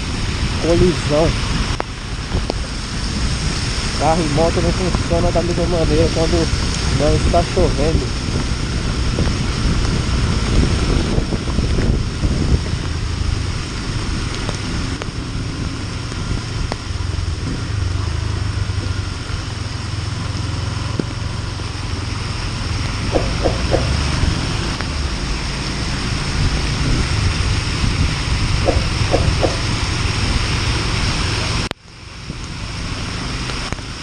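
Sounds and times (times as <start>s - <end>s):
motorcycle engine running: 0.0s - 31.7s
wind and wet road noise: 0.0s - 34.0s.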